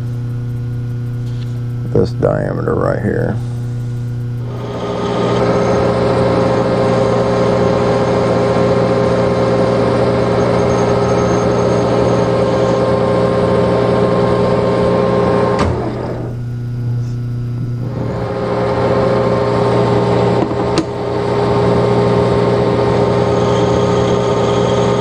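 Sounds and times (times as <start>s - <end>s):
lathe mechanical whirr: 0.0s - 25.0s
motor hum: 0.0s - 25.0s.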